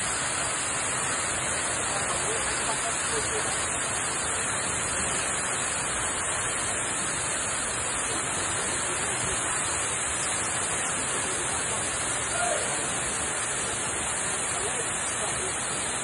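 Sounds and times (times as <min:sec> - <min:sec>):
waterfall rushing onto rocks: 0:00.0 - 0:16.0.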